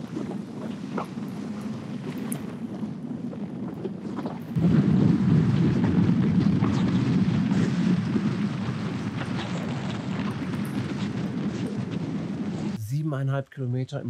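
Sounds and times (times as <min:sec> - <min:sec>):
wind rushing over microphone: 0:00.0 - 0:12.8.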